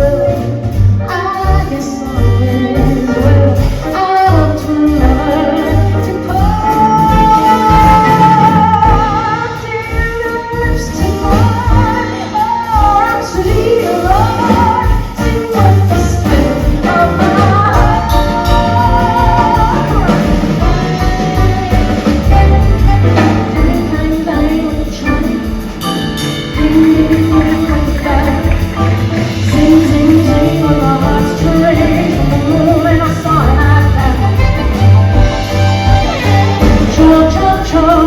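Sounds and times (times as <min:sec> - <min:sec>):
band with bass and drums: 0:00.0 - 0:38.0
woman singing with vibrato: 0:00.0 - 0:38.0.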